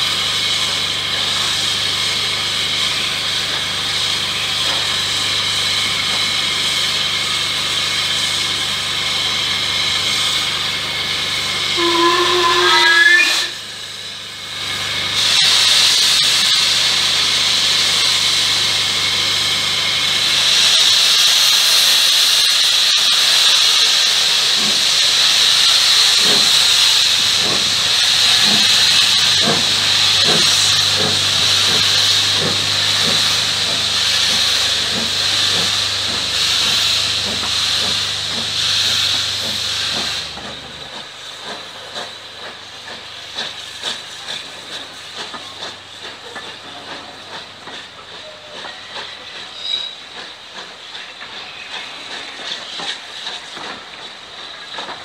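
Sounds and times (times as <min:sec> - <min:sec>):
steam hissing from locomotive: 0:00.0 - 0:55.0
steam locomotive exhaust chuffs: 0:00.0 - 0:55.0.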